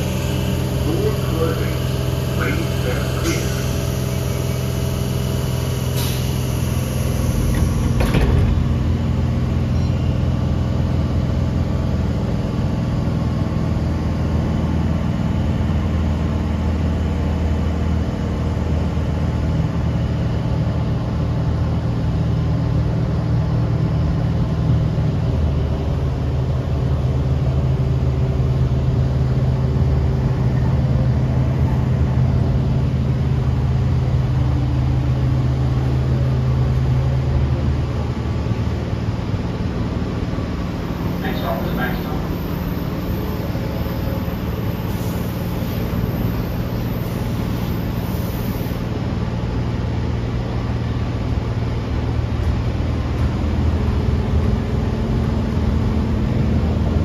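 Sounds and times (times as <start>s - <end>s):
electric train hum and rumble: 0.0s - 57.0s.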